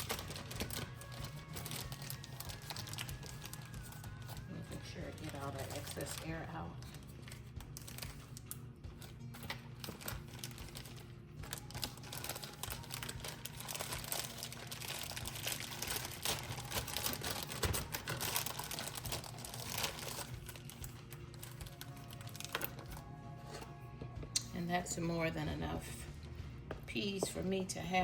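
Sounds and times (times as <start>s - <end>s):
plastic bag crinkling: 0.0s - 23.1s.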